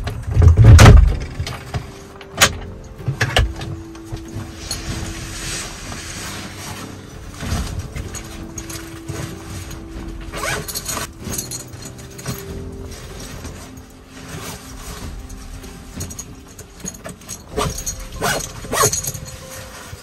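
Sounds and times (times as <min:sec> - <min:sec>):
bags and clothing rustling: 0:00.2 - 0:20.0.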